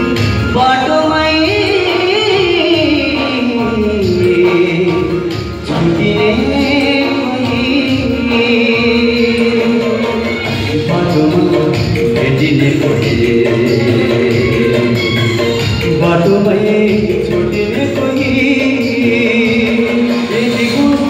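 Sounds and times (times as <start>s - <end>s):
man singing through speaker: 0.0s - 21.0s.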